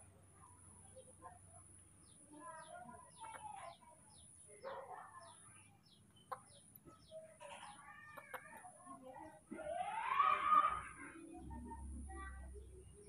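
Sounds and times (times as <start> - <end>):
faint chickens clucking: 0.0 - 13.0.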